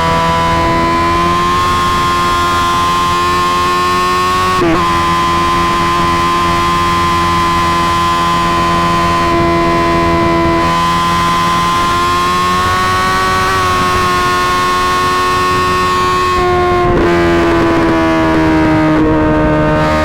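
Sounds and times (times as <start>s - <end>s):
motorcycle engine running steadily: 0.0s - 20.0s.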